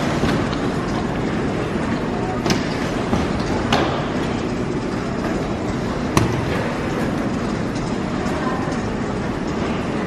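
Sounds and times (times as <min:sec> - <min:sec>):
baggage carousel rumbling clatter: 0:00.0 - 0:10.0.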